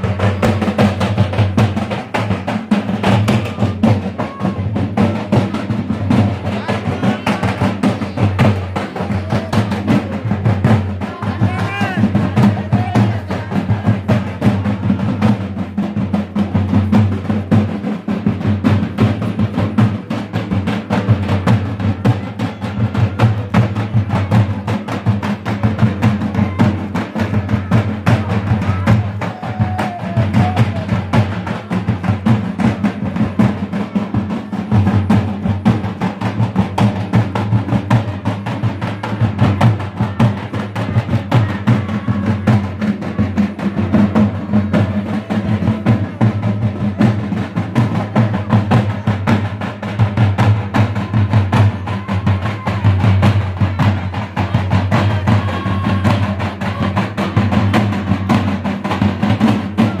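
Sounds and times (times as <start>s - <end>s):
steel drums beaten with sticks: 0.0s - 60.0s.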